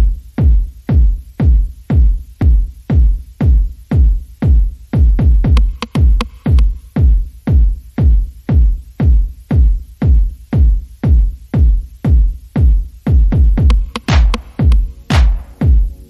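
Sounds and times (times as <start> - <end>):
electronic music with heavy beat: 0.0 - 16.0.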